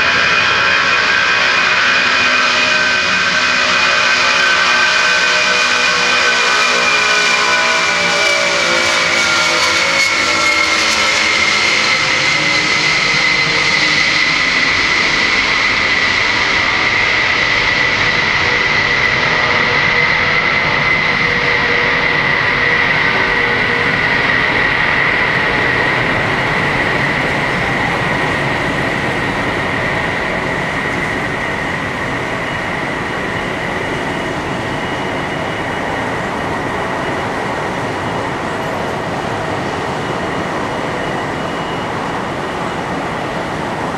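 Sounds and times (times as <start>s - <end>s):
jet engines whining and roaring: 0.0s - 43.9s.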